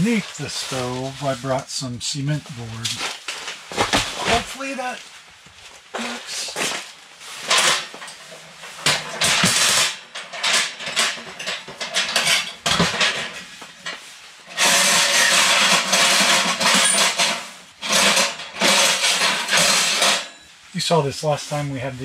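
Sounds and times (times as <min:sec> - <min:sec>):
hard materials scraping: 0:00.0 - 0:05.0, 0:05.7 - 0:22.0.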